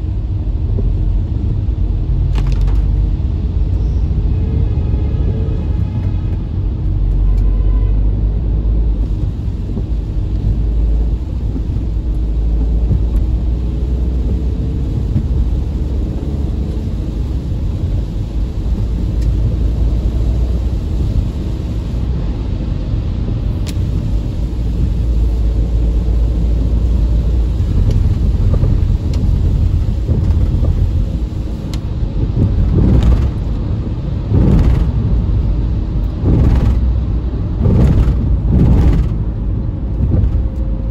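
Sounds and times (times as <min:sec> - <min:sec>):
car driving on road rumble: 0:00.0 - 0:40.9.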